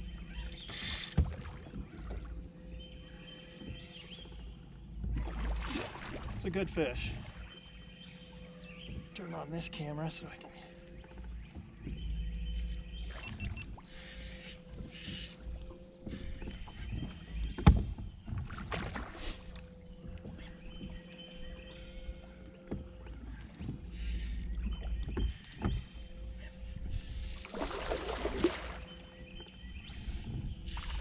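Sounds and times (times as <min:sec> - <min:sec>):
boat motor hum: 0:00.0 - 0:31.0
water against hull: 0:00.0 - 0:31.0.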